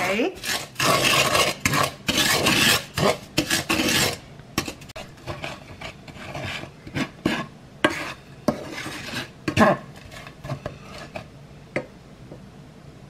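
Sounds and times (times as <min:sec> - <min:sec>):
wooden spatula scraping a pan: 0:00.0 - 0:11.3.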